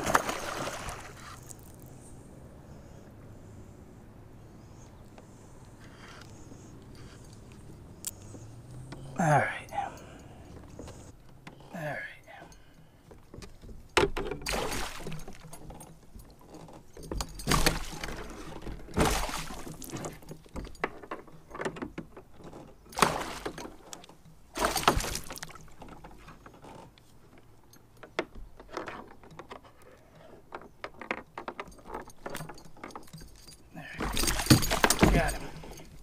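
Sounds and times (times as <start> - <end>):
fishing gear rattling and clicking: 0.0 - 2.0, 5.7 - 36.0.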